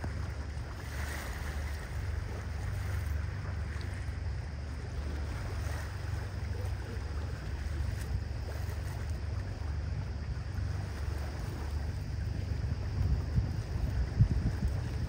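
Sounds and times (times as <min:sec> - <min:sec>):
boat engine drone: 0:00.0 - 0:15.0
wind on microphone: 0:00.0 - 0:15.0.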